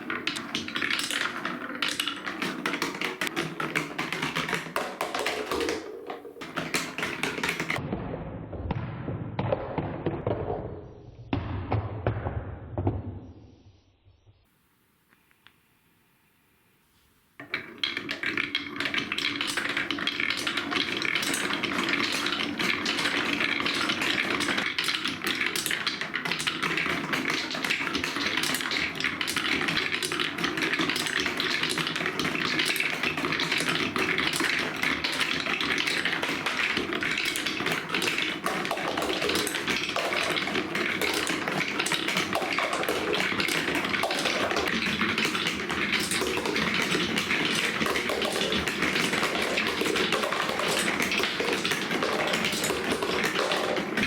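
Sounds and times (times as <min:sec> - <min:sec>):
marbles rattling down a track: 0:00.0 - 0:07.8, 0:17.4 - 0:54.0.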